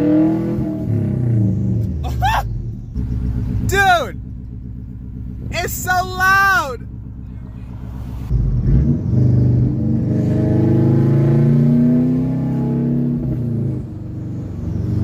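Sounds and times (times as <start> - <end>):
car engine revving: 0.0 - 6.2, 6.8 - 15.0.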